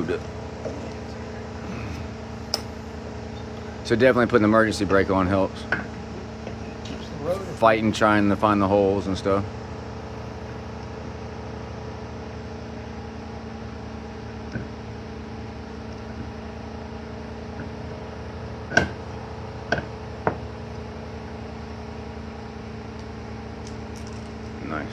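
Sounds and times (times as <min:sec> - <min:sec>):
steady machine hum: 0:00.0 - 0:24.9.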